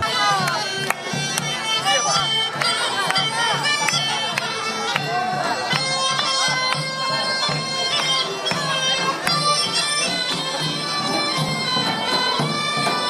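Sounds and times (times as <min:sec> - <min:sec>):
reedy wind instrument melody: 0:00.0 - 0:13.0
steady drum beat: 0:00.0 - 0:13.0.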